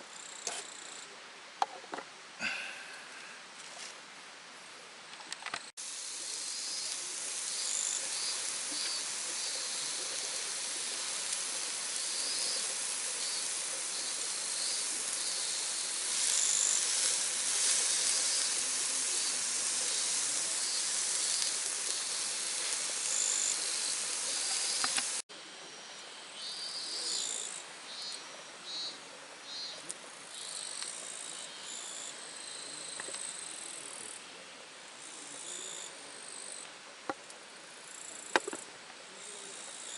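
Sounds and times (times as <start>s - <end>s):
steady high hiss: 0.0s - 39.9s
insects chirping in trills: 5.5s - 39.9s.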